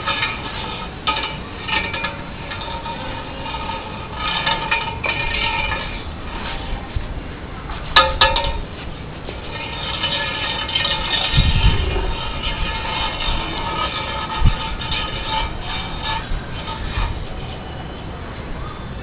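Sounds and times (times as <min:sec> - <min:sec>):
pole clinking on concrete: 0:00.0 - 0:06.9, 0:07.6 - 0:18.0
steady droning hum: 0:00.0 - 0:19.0.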